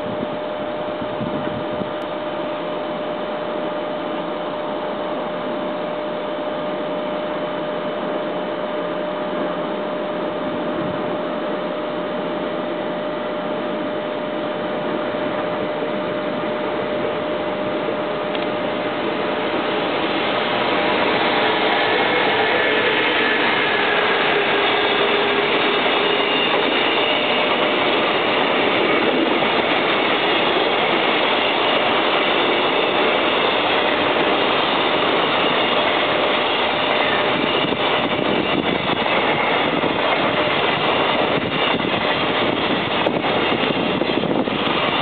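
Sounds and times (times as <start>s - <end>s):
approaching freight train: 0.0s - 45.0s.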